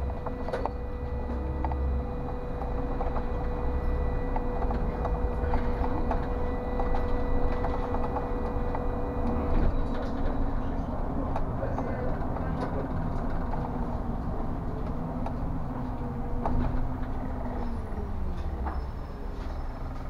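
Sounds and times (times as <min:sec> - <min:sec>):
bus engine rumble: 0:00.0 - 0:20.0
road noise: 0:00.0 - 0:20.0
steady whine: 0:00.0 - 0:20.0.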